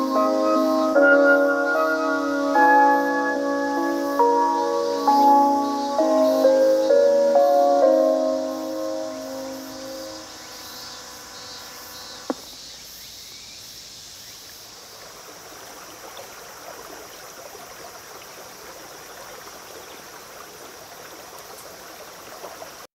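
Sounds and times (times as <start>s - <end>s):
cicadas singing: 0.0s - 22.9s.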